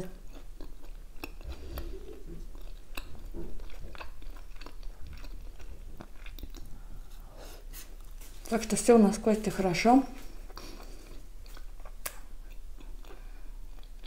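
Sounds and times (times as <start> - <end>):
chewing with mouth clicks: 0.0 - 8.3, 10.2 - 14.0.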